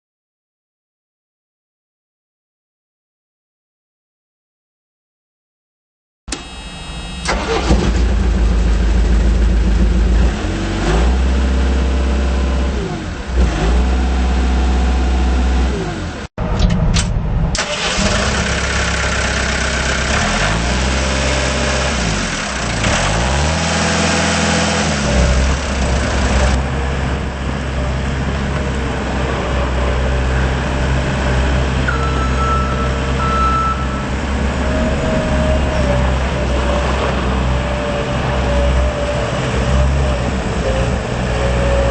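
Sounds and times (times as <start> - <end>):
diesel engine revving: 6.3 - 41.9.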